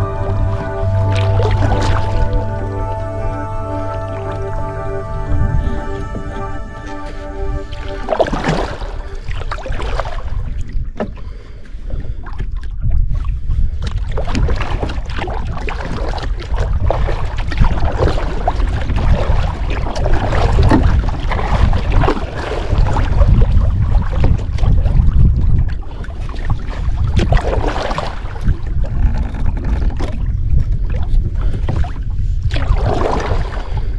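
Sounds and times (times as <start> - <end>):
paddle splashing in water: 0.0 - 33.9
wind rumble on microphone: 0.0 - 33.9.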